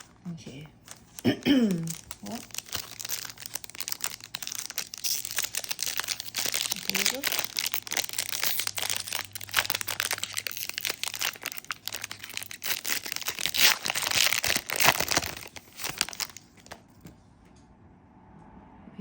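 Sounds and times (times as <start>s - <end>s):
foil wrapper crinkling and tearing: 0.0s - 17.1s.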